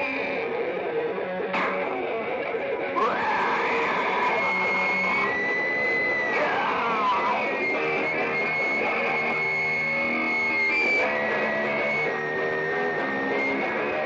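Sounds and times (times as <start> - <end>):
guitar music: 0.0 - 14.0.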